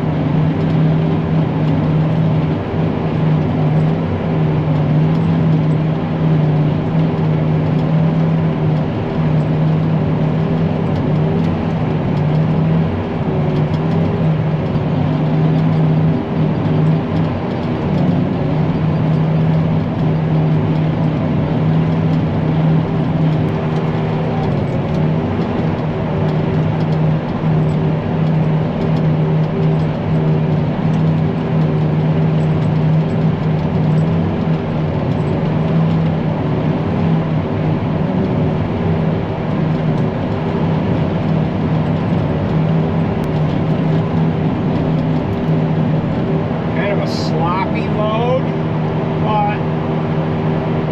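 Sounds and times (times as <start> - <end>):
forage harvester engine drone: 0.0 - 50.9.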